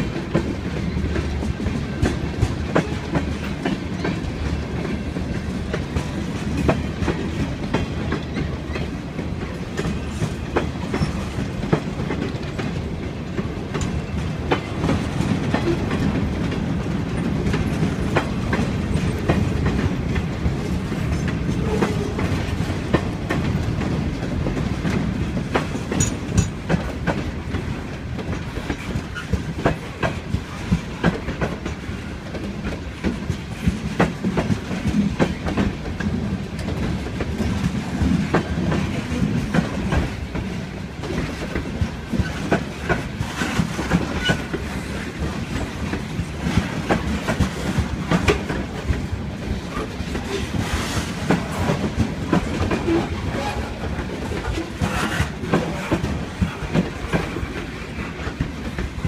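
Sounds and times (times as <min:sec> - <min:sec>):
wheels clacking over rail joints: 0:00.0 - 0:59.0.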